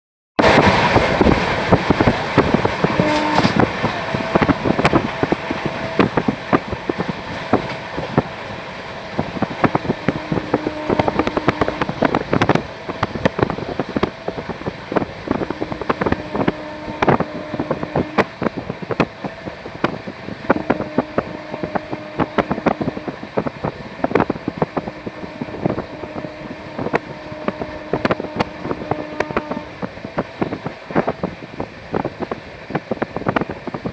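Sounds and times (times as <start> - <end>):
train running at speed: 0.4 - 33.9
wind buffeting microphone: 0.4 - 33.9.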